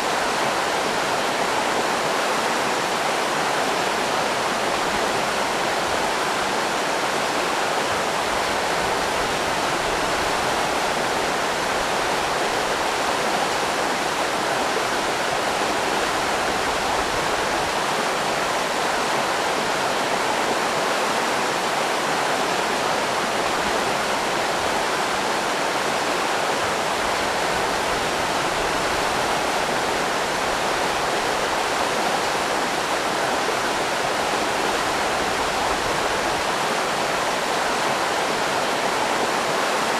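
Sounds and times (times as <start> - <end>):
river rapids rushing: 0.0 - 39.9.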